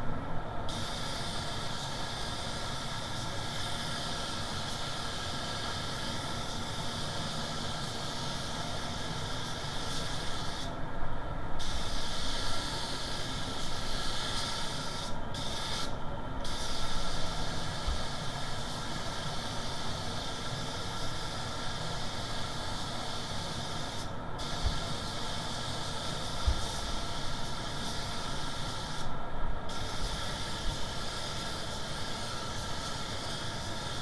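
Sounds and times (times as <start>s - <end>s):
spray gun hissing: 0.7s - 10.8s, 11.6s - 29.1s, 29.7s - 34.0s.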